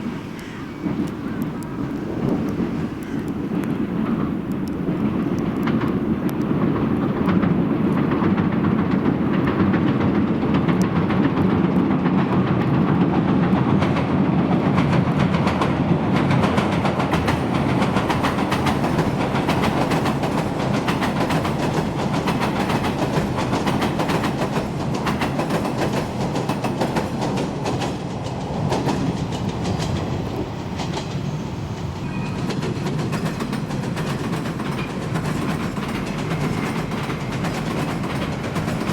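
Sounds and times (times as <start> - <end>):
electric train crossing bridge: 0.0 - 38.9.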